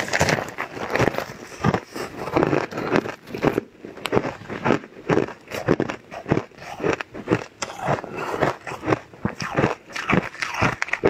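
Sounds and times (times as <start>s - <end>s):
person chewing crumbly cake: 0.0s - 11.0s.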